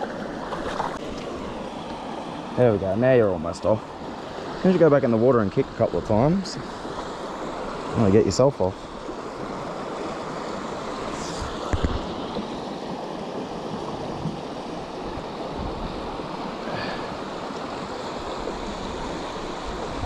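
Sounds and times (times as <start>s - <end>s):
stream rushing over cascade: 0.0s - 20.0s.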